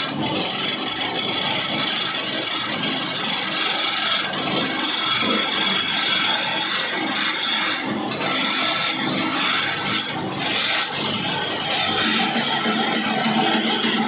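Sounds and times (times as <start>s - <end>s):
electric mill grinding: 0.0s - 14.0s
motor high whine: 0.0s - 14.0s.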